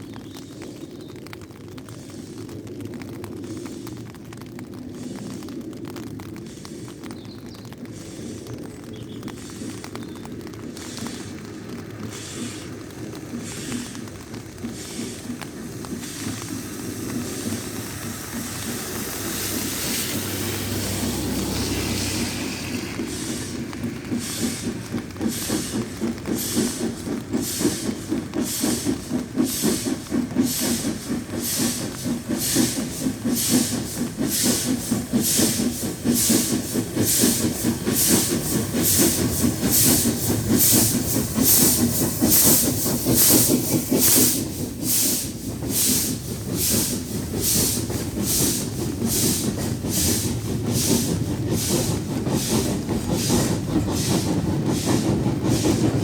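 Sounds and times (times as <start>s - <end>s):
steam locomotive chuffing: 0.0s - 56.0s
train rumble: 0.0s - 56.0s.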